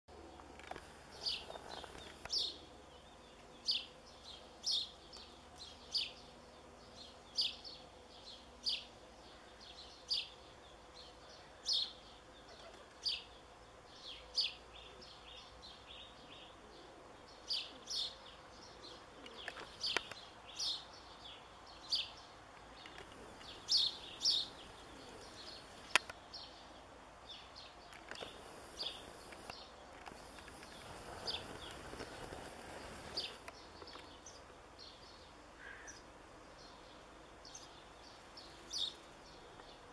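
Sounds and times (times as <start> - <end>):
small bird chirping: 0.2 - 16.6, 17.3 - 39.9.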